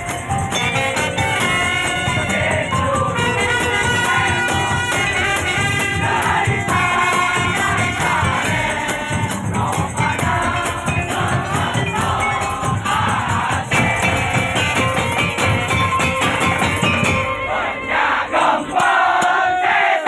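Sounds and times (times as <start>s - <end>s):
shaken percussion: 0.0s - 20.0s
voices singing: 0.0s - 20.0s.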